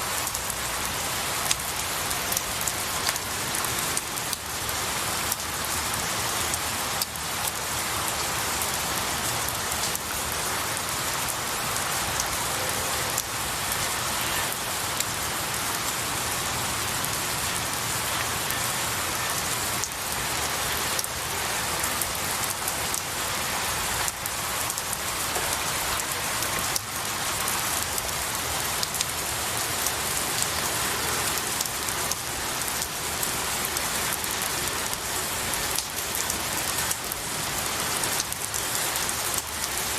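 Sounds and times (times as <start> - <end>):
rain on pine needles: 0.0 - 39.9.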